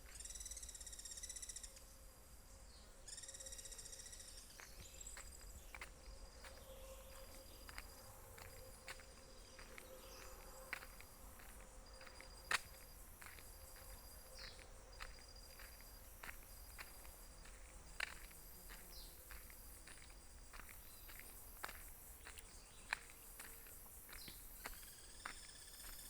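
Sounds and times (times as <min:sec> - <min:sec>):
insect chorus buzzing: 0:00.0 - 0:26.0.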